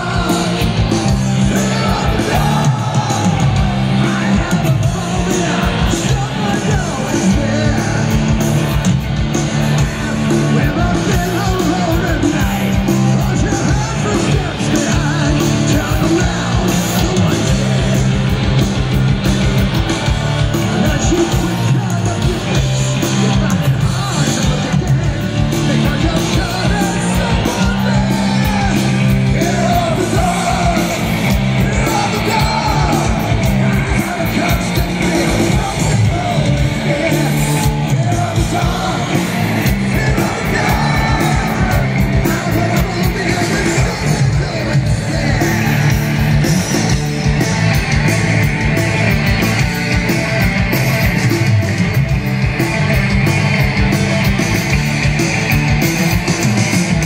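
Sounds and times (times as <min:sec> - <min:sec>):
heavy metal band playing live: 0:00.0 - 0:57.0
people singing and yelling: 0:00.0 - 0:57.0.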